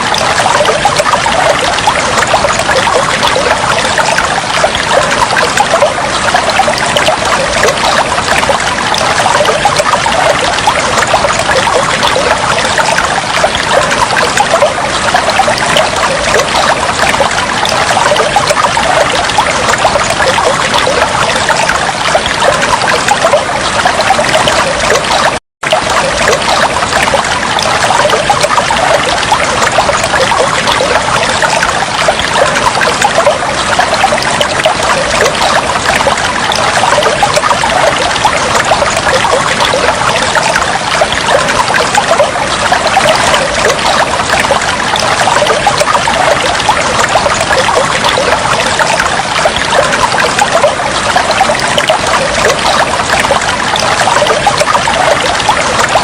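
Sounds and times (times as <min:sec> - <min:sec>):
water trickling and bubbling: 0:00.0 - 0:56.0.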